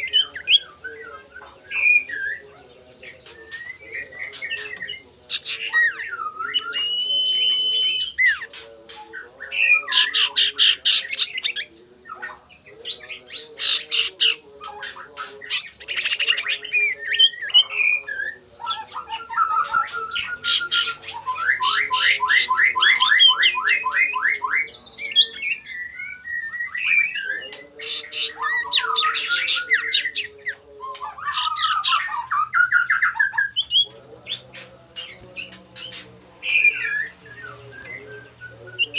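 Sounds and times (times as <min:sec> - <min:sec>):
bird whistling trilling and chattering: 0:00.0 - 0:38.9.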